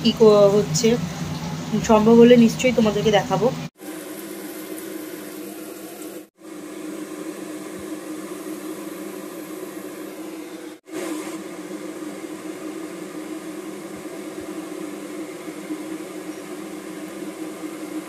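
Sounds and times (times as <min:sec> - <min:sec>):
kitchen hum and hiss: 0:00.0 - 0:18.0.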